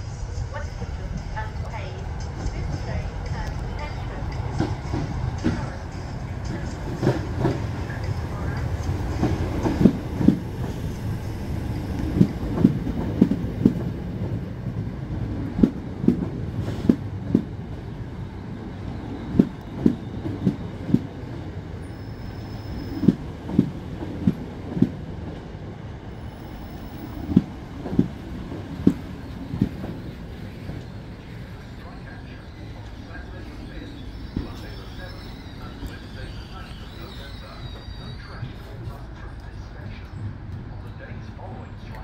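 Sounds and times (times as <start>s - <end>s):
electric train rumbling past: 0.0s - 42.0s.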